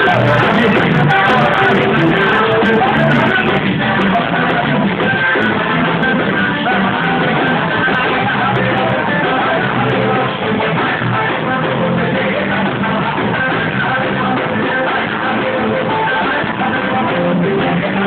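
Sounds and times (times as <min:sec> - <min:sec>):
band playing a song: 0:00.0 - 0:18.0.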